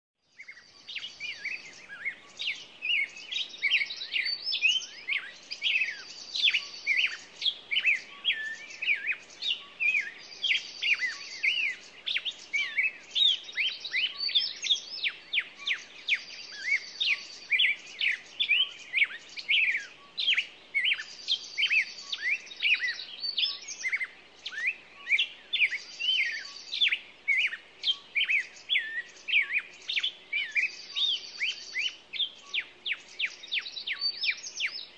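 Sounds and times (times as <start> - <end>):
small songbirds chirping: 0.2 - 34.9.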